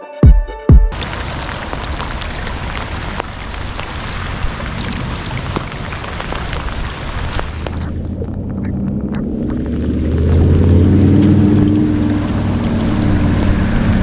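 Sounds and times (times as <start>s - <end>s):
heavy rain hissing: 0.9s - 8.5s, 9.2s - 14.0s
raindrops ticking on a surface: 0.9s - 14.0s.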